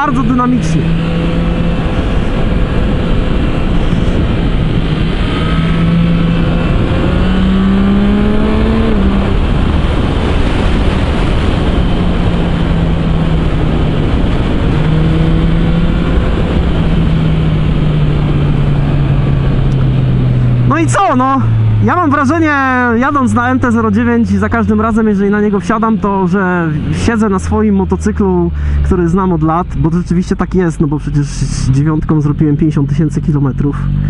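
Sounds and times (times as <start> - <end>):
wind rush on microphone: 0.0 - 29.8
motorcycle engine revving: 0.0 - 34.0.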